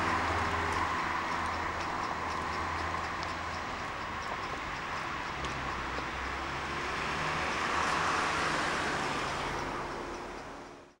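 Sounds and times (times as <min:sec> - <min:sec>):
road traffic hum: 0:00.0 - 0:11.0
vehicle passing on road: 0:00.0 - 0:11.0.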